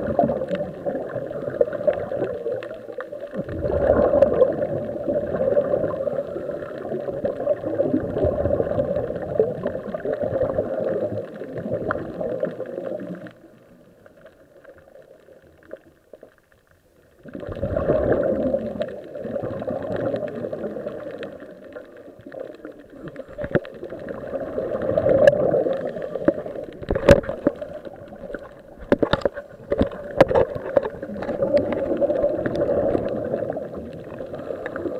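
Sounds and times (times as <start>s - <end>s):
underwater breath bubbling: 0.0s - 13.3s, 17.2s - 34.9s.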